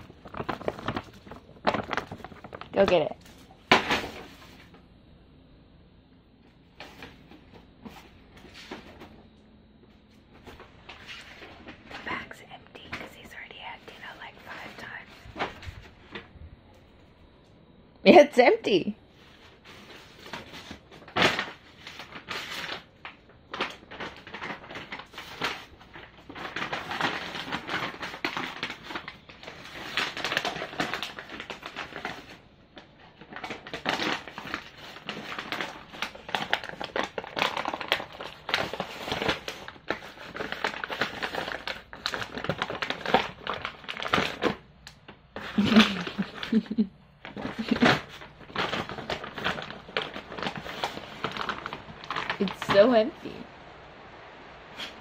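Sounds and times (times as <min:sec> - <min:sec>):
plastic bag crinkling: 0:00.0 - 0:04.8, 0:10.2 - 0:16.4, 0:19.1 - 0:53.4.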